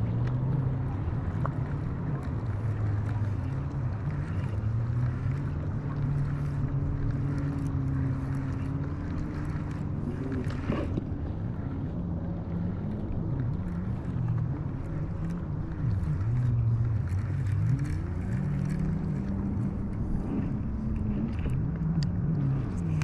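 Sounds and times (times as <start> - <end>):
motorboat engine droning: 0.0 - 23.0.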